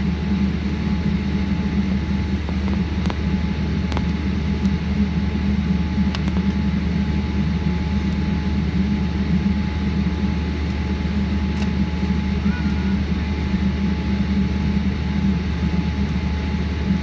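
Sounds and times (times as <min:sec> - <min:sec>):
airliner cabin hum: 0:00.0 - 0:17.0
faint steady whine: 0:00.0 - 0:17.0.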